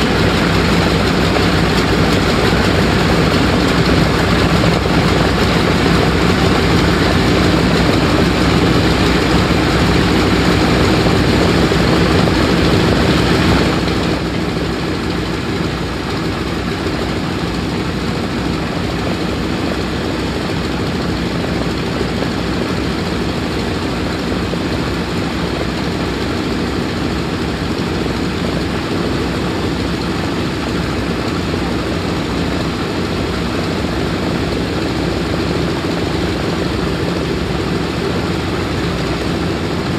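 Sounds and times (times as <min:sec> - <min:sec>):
propeller aircraft engines running: 0:00.0 - 0:39.9.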